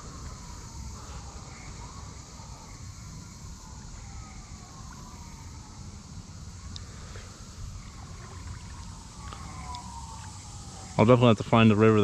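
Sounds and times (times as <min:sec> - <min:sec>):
distant siren wailing: 0:00.0 - 0:12.0.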